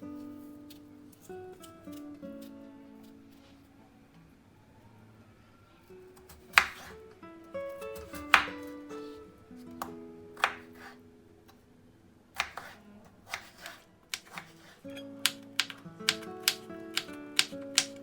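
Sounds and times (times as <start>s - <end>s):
soft plucked background music: 0.0s - 12.8s, 14.2s - 18.0s.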